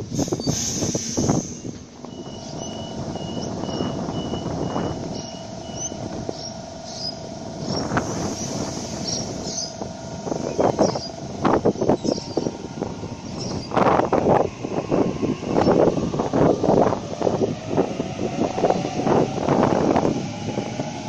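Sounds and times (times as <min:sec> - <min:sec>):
electric train hum and whine: 0:00.0 - 0:21.0.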